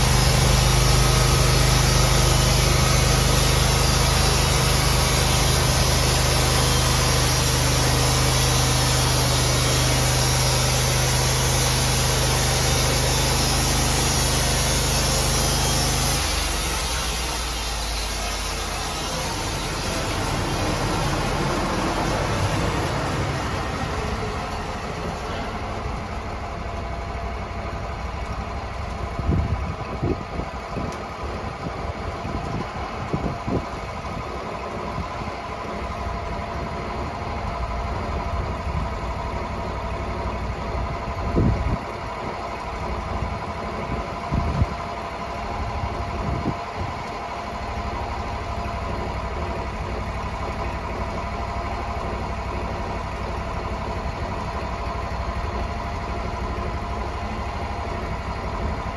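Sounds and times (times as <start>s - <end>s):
sawmill engine idling: 0.0s - 58.9s.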